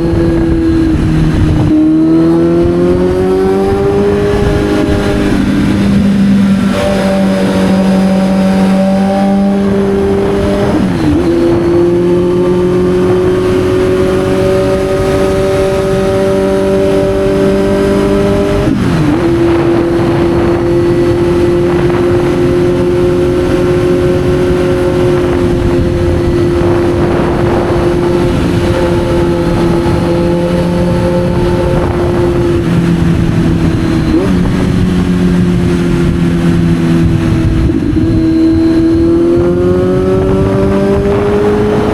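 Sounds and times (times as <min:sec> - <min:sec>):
motorcycle engine pulling: 0:00.0 - 0:41.9.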